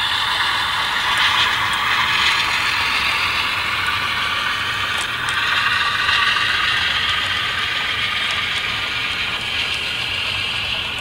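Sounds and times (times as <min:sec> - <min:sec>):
model train wheels whirring: 0:00.0 - 0:11.0.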